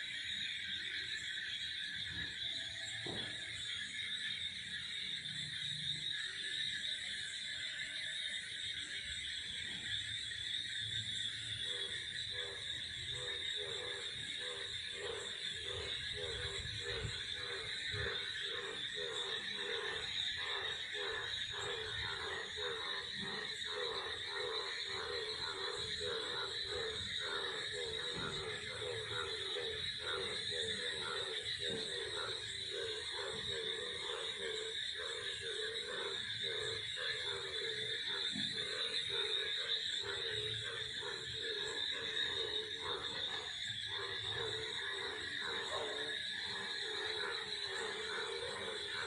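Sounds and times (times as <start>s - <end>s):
cicadas droning: 0.0s - 49.0s
frogs croaking: 0.0s - 49.0s.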